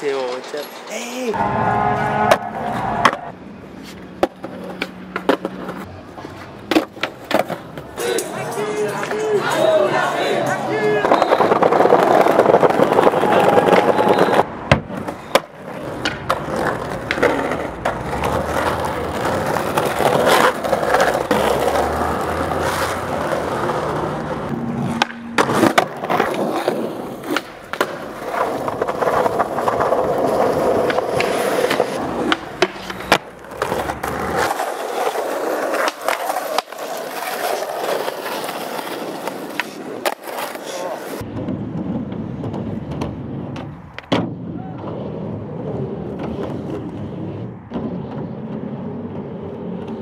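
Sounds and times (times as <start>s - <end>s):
skateboard wheels rolling: 0.1s - 50.0s
skateboard clacks and knocks: 4.2s - 9.7s, 10.3s - 50.0s.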